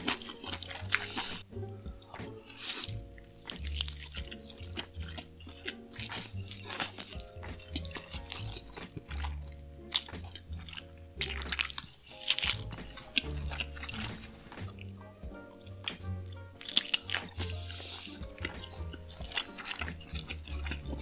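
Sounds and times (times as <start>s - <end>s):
background music with bass line: 0.0s - 21.0s
biting and chewing meat: 0.0s - 21.0s.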